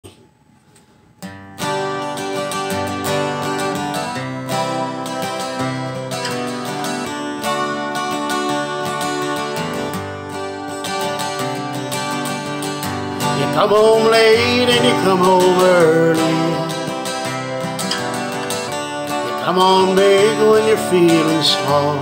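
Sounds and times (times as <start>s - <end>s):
acoustic guitar strumming: 1.2s - 22.0s.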